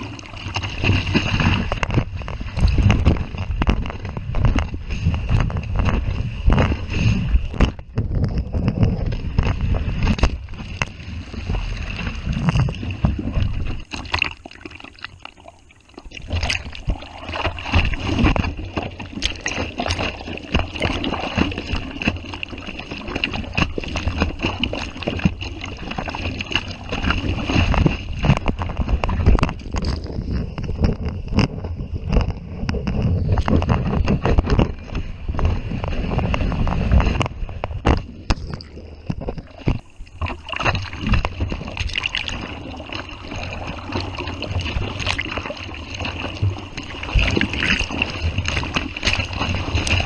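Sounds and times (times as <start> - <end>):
ocean water sloshing: 0.0 - 50.0.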